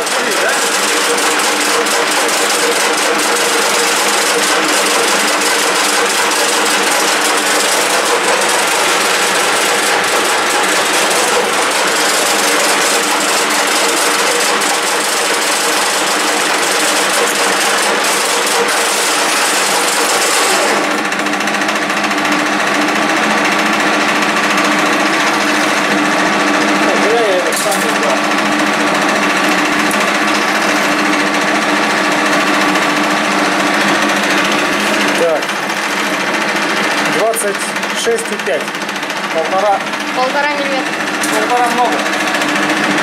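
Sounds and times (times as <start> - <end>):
lathe mechanical whir: 0.0 - 43.0.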